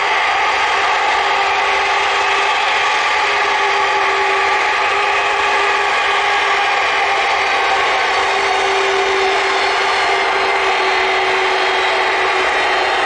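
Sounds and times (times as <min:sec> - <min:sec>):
jet engines running: 0:00.0 - 0:13.0
steady engine whine: 0:00.0 - 0:13.0.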